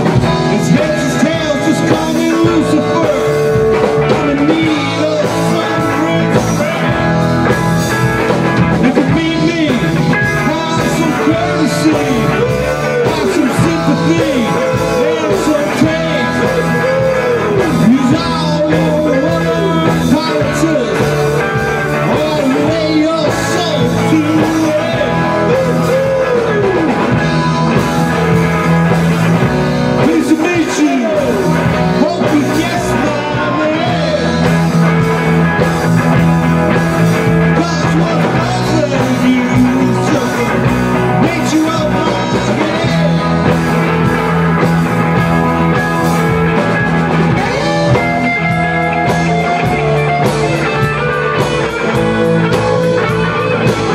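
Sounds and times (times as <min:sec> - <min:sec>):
bass guitar: 0:00.0 - 0:53.9
drum kit with cymbals: 0:00.0 - 0:53.9
electric guitars: 0:00.0 - 0:53.9
man singing: 0:00.0 - 0:53.9.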